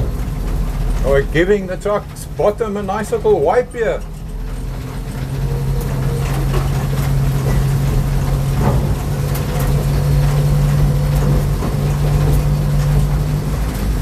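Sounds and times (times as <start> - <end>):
truck body knocks and rattles: 0.0 - 14.0
truck engine running: 0.0 - 14.0.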